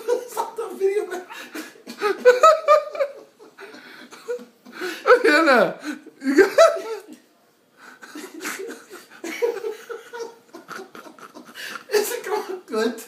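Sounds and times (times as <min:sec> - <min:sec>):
people laughing: 0:00.0 - 0:05.4, 0:06.2 - 0:07.2, 0:07.9 - 0:12.7.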